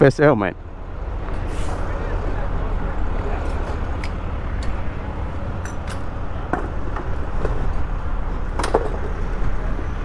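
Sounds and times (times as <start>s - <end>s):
street and vehicle rumble: 0.0s - 10.0s.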